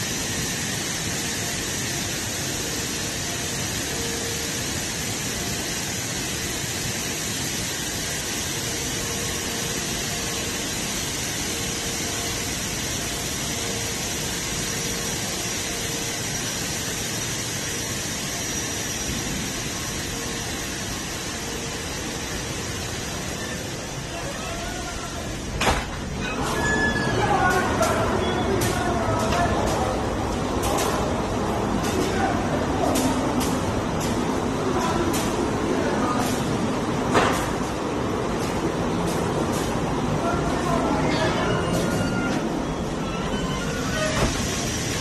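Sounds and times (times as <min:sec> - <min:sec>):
industrial hiss and hum: 0:00.0 - 0:45.0.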